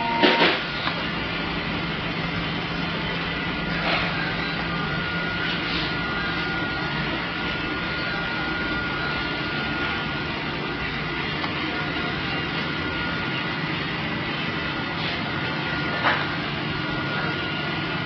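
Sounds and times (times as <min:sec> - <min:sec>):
machine drone: 0:00.0 - 0:18.0
thin whine: 0:00.0 - 0:18.0.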